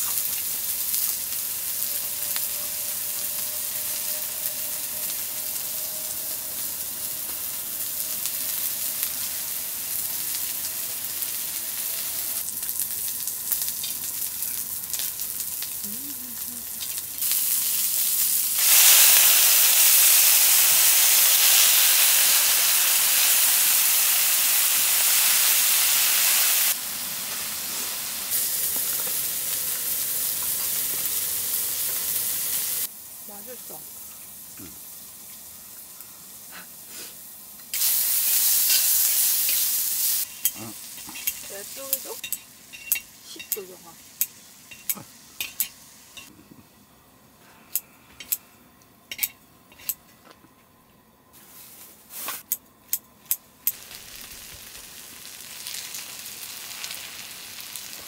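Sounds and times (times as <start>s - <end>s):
food sizzling in a pan: 0.0s - 46.3s, 53.7s - 58.0s.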